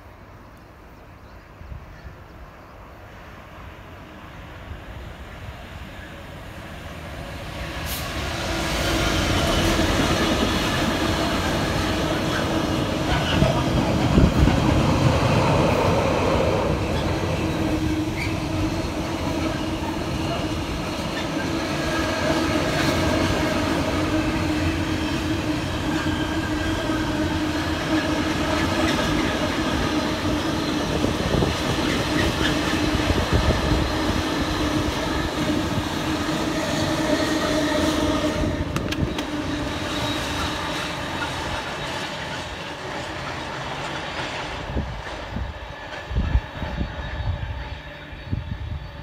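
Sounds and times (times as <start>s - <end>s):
train rumbling past: 1.6s - 49.0s.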